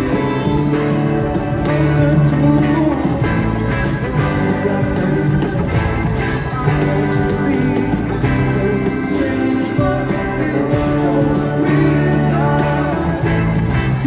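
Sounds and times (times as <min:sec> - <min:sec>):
electric guitar: 0:00.0 - 0:14.0
live rock band playing: 0:00.0 - 0:14.0.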